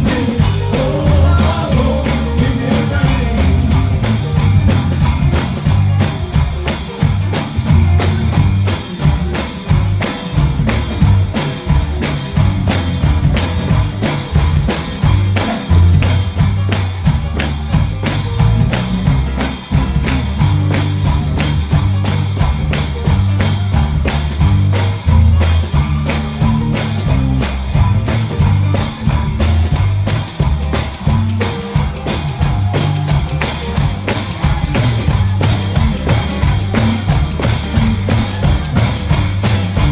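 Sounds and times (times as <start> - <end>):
drum kit fast beat: 0.0 - 39.9
guitar: 0.0 - 39.9
heavy bass line: 0.0 - 39.9.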